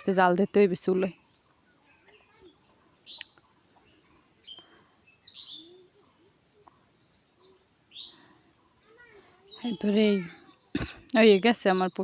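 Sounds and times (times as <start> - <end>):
faint bird chirps: 0.8 - 12.0.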